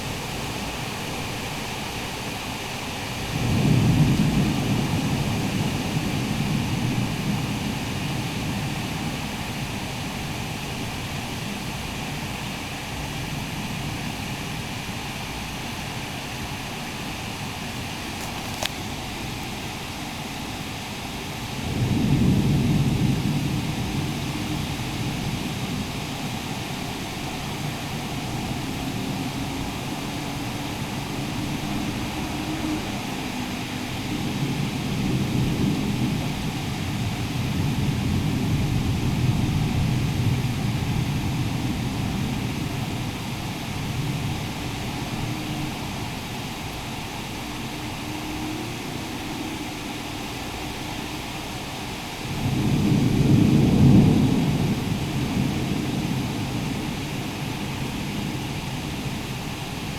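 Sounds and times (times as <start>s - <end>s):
thunder rumbling: 0.0s - 12.3s, 21.2s - 48.6s, 50.3s - 59.9s
heavy rain hissing: 0.0s - 59.9s.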